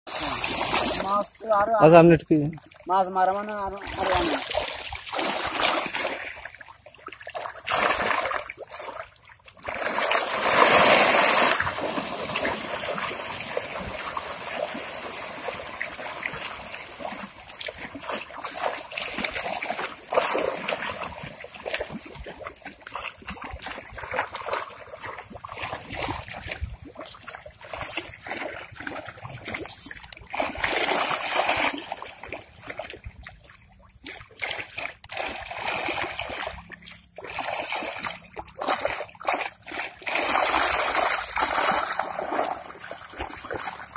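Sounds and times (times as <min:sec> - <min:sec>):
river water splashing and trickling: 0:00.0 - 0:43.9
loud water splashes: 0:00.1 - 0:32.9, 0:34.1 - 0:43.9.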